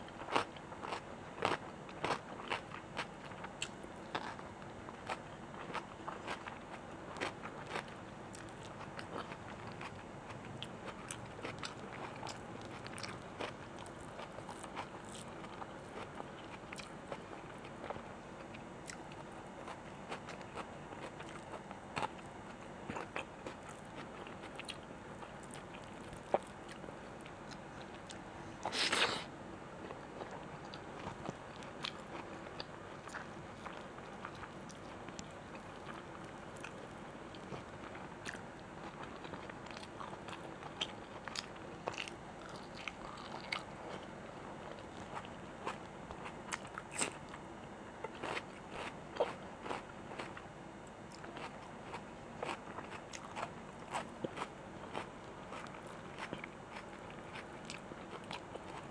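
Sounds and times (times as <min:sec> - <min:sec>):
person chewing food: 0:00.1 - 0:29.2, 0:29.8 - 0:47.4, 0:48.0 - 0:58.9.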